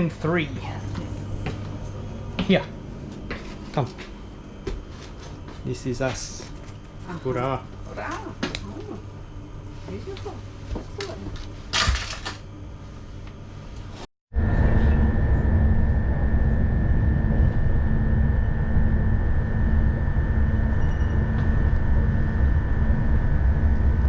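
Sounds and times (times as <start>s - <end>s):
thin steady whine: 0.0s - 24.0s.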